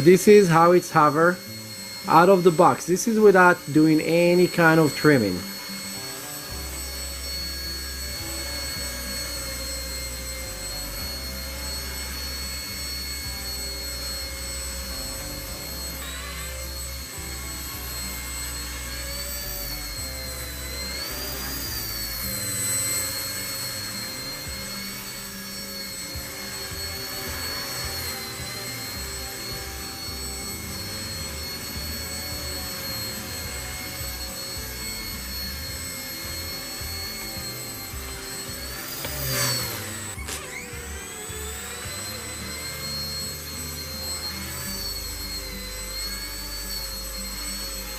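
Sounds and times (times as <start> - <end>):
toy helicopter rotors whining: 0.0 - 47.9.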